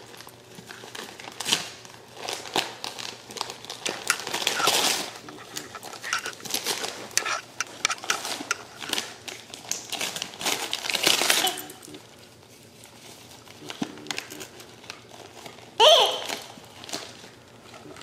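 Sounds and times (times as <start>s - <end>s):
wrapping paper crinkling: 0.0s - 18.0s.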